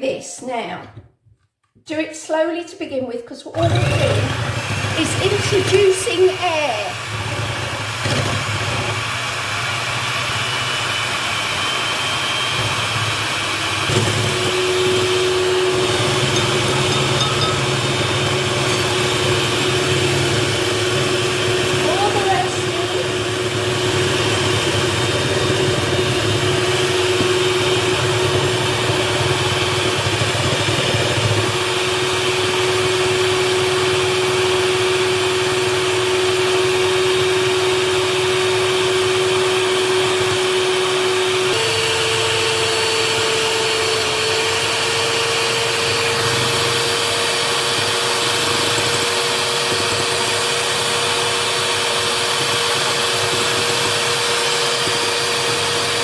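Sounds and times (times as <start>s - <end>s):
electric mixer running: 3.6s - 56.0s.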